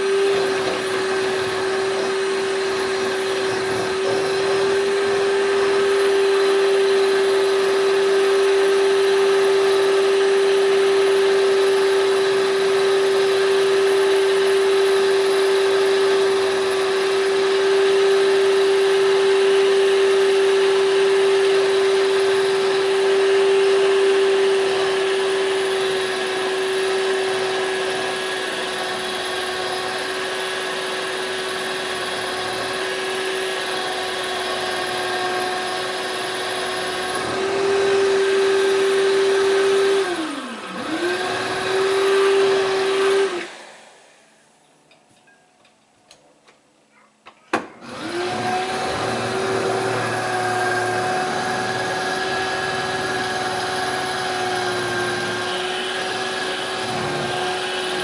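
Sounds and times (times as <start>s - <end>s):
electric drill whining: 0.0s - 44.2s, 47.8s - 58.0s.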